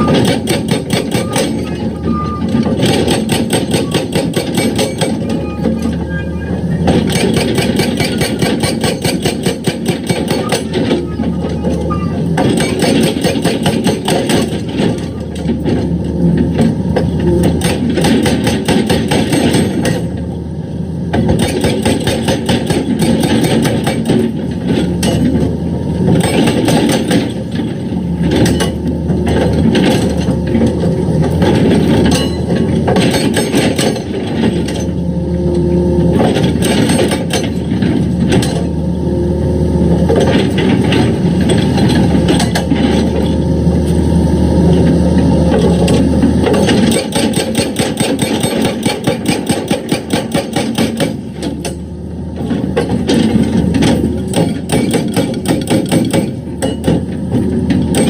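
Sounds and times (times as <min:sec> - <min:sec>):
steel clanking and scraping on rock: 0:00.0 - 0:20.3, 0:21.2 - 0:25.5, 0:26.1 - 0:35.0, 0:36.1 - 0:38.7, 0:45.5 - 0:58.0
excavator engine under load: 0:00.0 - 0:58.0.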